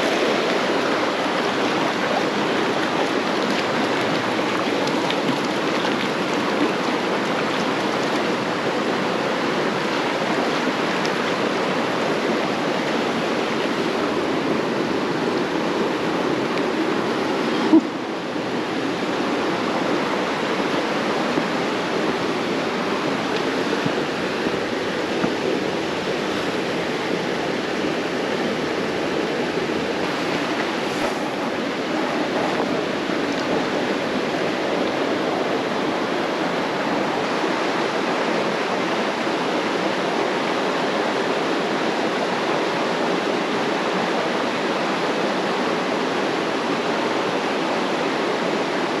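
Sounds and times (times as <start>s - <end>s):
creek water flowing: 0.0s - 49.0s.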